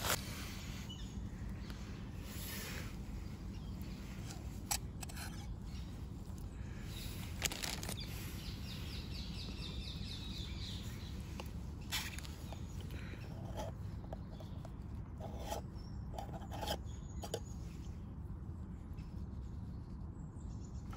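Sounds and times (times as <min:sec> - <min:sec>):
outdoor background noise: 0:00.0 - 0:20.9.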